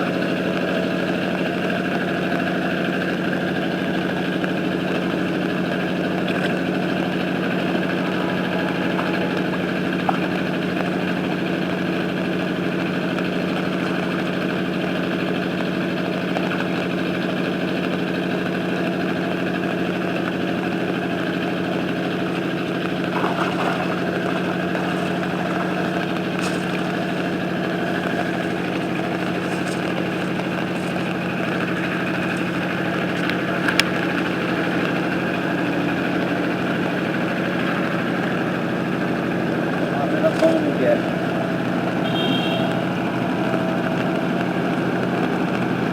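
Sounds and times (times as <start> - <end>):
small engine running steadily: 0.0 - 45.9.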